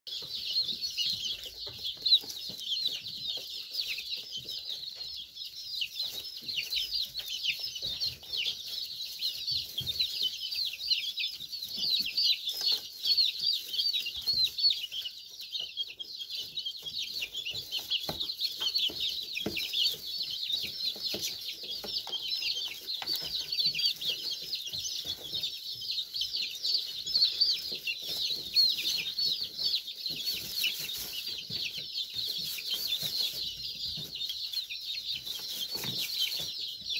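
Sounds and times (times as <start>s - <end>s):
young chickens peeping: 0.1s - 36.9s.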